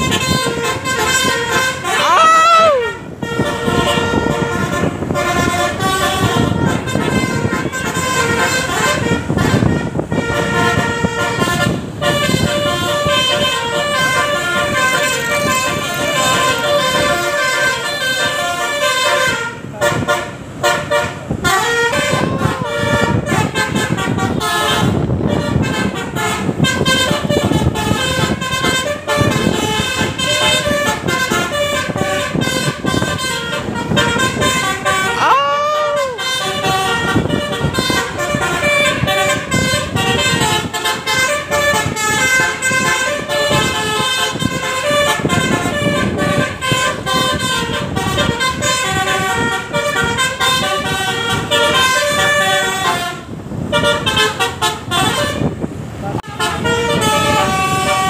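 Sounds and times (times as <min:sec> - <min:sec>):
bus multi-tone horn playing tune: 0:00.0 - 0:58.0.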